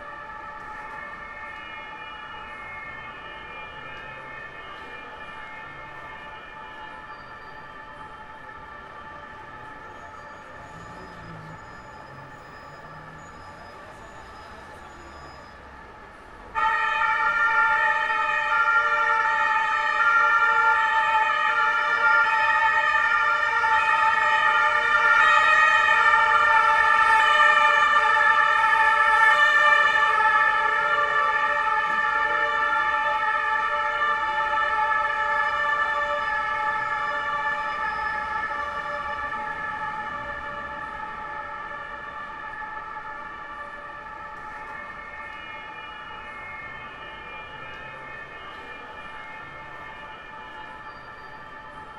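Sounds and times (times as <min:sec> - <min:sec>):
police two-tone siren: 0:00.0 - 0:51.9.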